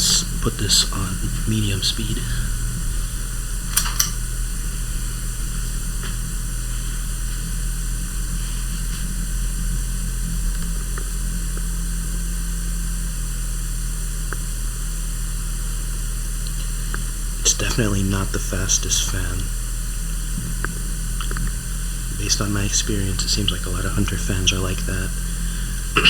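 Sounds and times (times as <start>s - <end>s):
ceiling fan humming: 0.0s - 26.0s.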